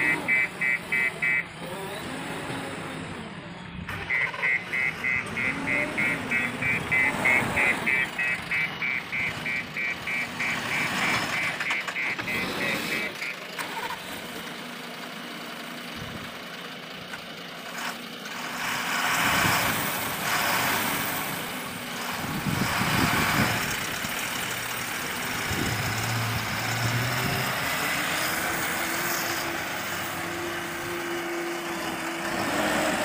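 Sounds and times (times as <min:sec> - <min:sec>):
backhoe diesel engine: 0:00.0 - 0:33.0.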